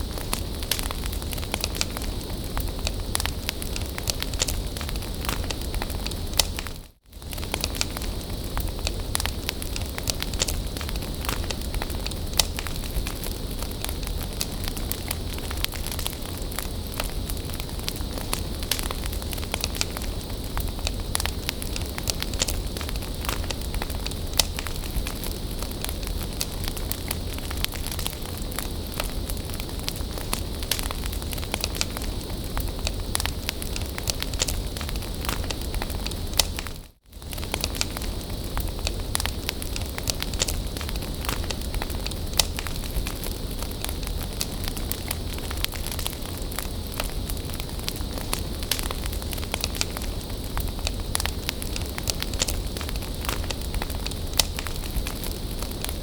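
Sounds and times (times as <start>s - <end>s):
bonfire crackling and popping: 0.0s - 56.0s
fire hiss and rumble: 0.0s - 56.0s.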